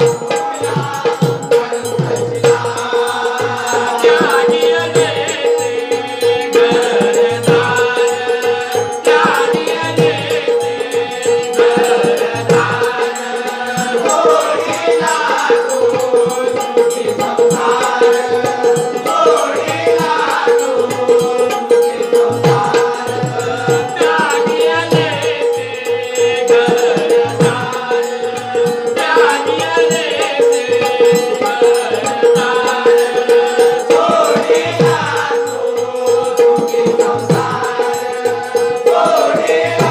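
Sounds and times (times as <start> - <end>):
rattling percussion: 0.0 - 39.9
voices singing: 0.0 - 39.9.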